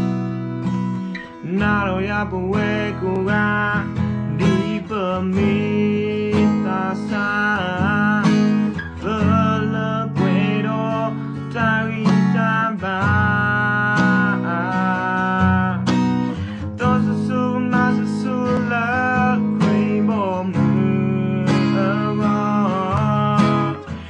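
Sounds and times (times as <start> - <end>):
acoustic guitar strumming: 0.0 - 24.0
man singing: 1.1 - 24.0.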